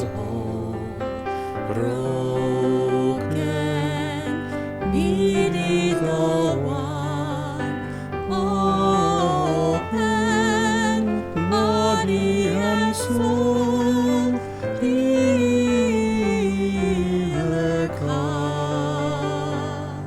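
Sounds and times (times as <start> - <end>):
person singing with vibrato: 0.0 - 20.0.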